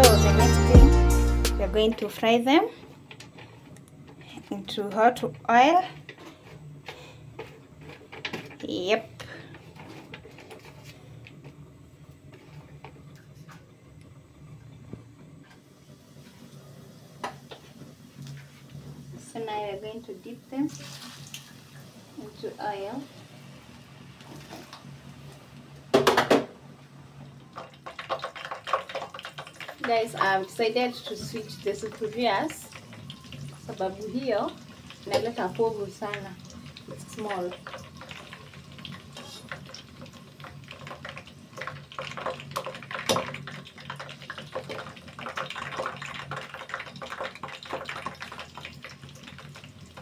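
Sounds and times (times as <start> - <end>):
food deep frying in oil: 1.8 - 50.0.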